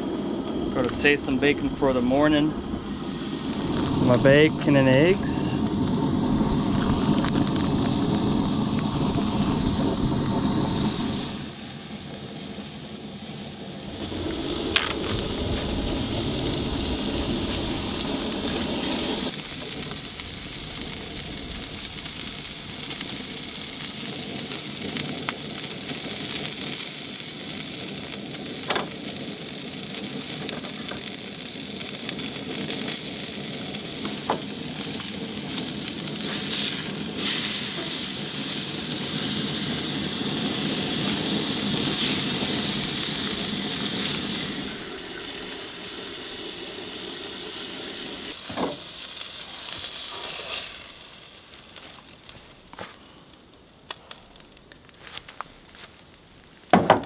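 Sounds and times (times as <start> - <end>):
meat sizzling in a skillet: 2.8 - 11.5, 13.9 - 51.8.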